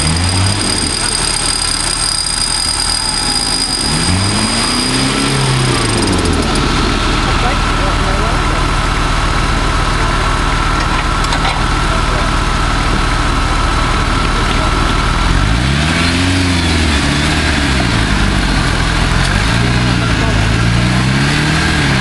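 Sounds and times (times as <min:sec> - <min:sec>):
off-road vehicle engine idling and revving: 0:00.0 - 0:22.0.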